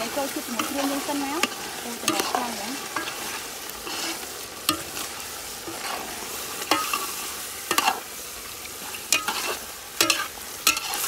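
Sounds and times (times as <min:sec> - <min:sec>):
food sizzling in pot: 0:00.0 - 0:11.0
metal ladle stirring in pot: 0:00.0 - 0:11.0.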